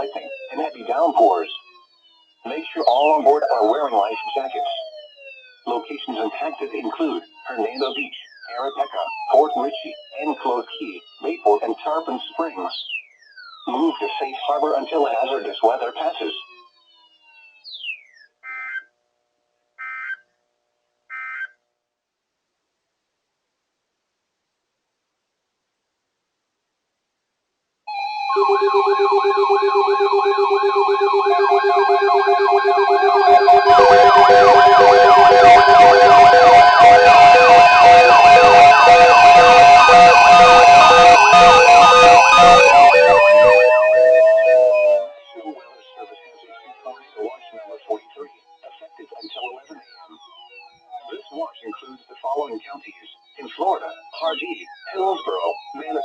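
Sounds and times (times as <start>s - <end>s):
emergency alert data bursts: 0.0s - 18.9s, 19.8s - 20.2s, 21.1s - 21.6s, 27.9s - 56.0s.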